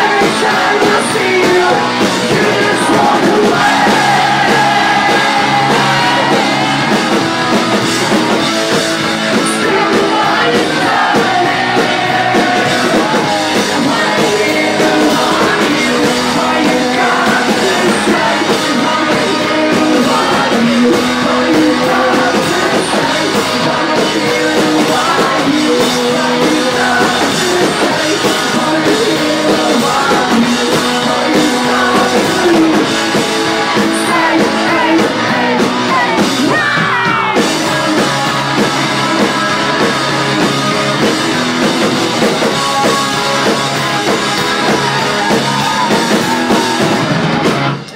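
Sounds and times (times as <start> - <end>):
man singing and yelling: 0.0 - 47.2
electric guitar: 0.0 - 47.9
live rock band playing: 0.0 - 47.9.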